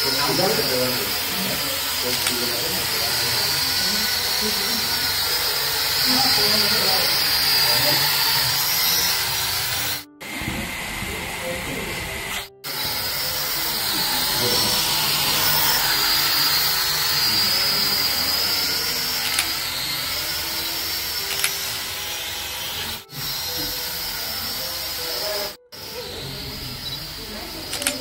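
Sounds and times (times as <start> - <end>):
toy drone buzzing whine: 0.0 - 28.0.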